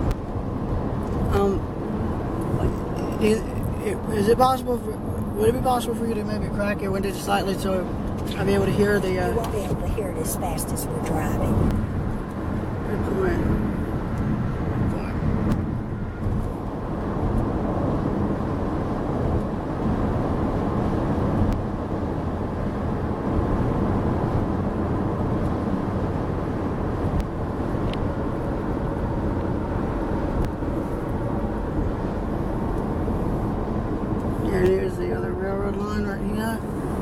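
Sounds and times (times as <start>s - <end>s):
road and engine noise in car: 0.0s - 37.0s.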